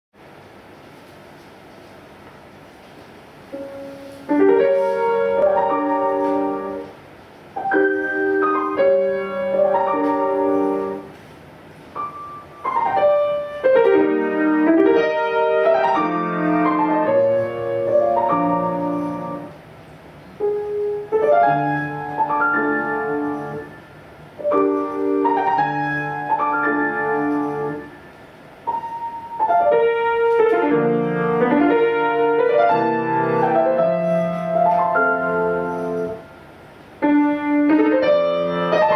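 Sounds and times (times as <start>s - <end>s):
piano playing chords: 3.5s - 11.2s, 11.8s - 38.9s.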